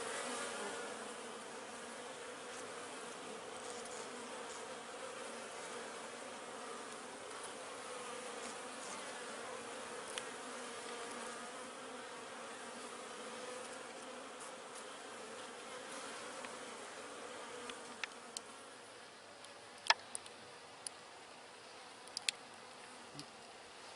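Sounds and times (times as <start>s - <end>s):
honey bees buzzing: 0.0s - 19.5s.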